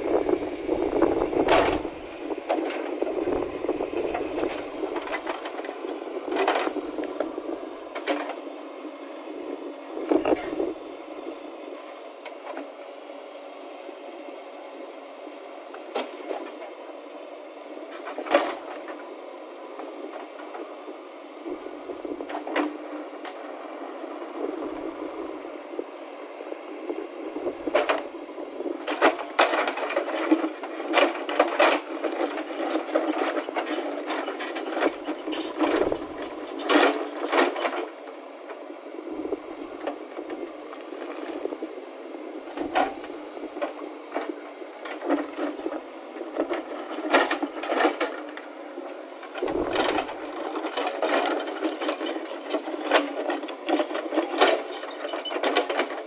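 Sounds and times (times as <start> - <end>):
backhoe engine running: 0.0 - 56.0.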